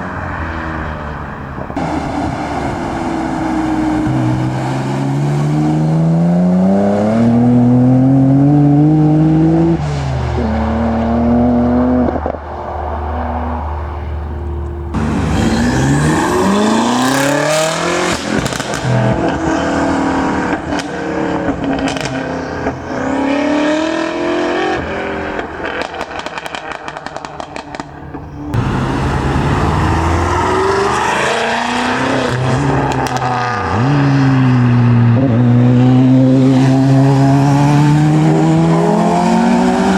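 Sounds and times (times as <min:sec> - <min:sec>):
cars accelerating hard: 0:00.0 - 0:39.9
exhaust crackles: 0:01.4 - 0:39.9.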